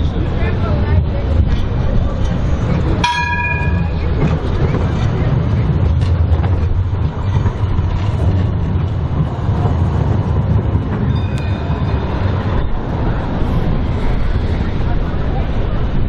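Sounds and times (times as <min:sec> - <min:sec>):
tram rumbling past: 0:00.0 - 0:16.0.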